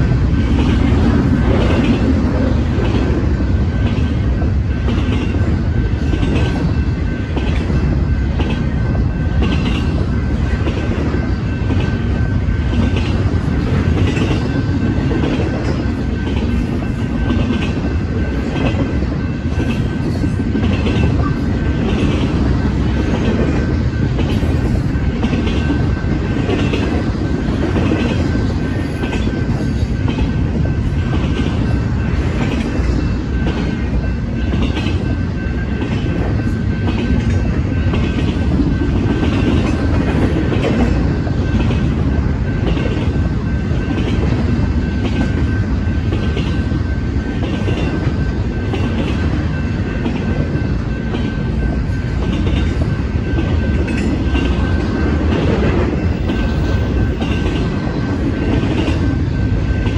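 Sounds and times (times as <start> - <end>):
crossing bell ringing: 0.0 - 59.9
freight train wheels rumbling: 0.0 - 59.9.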